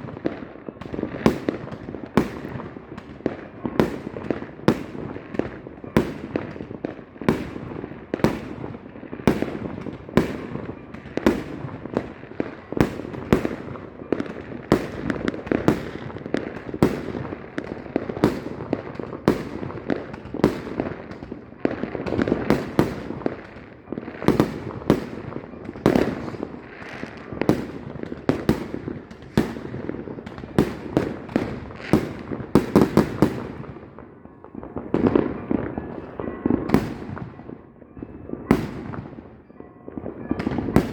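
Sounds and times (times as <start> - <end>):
fireworks bangs: 0.0 - 40.9
fireworks rumble: 0.0 - 40.9.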